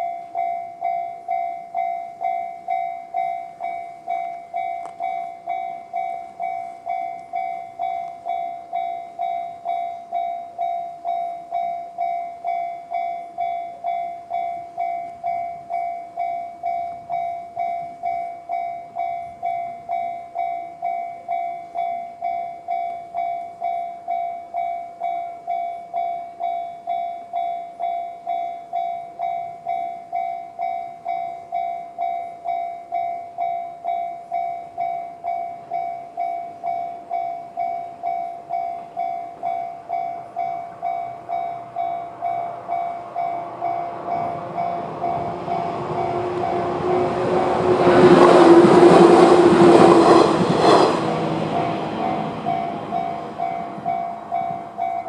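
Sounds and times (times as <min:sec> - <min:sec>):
level crossing alarm bell ringing: 0:00.0 - 0:48.6, 0:51.4 - 0:55.0.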